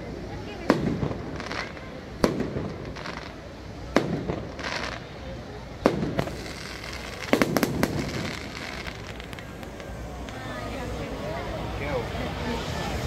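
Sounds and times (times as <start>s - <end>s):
fireworks banging: 0.0s - 11.2s.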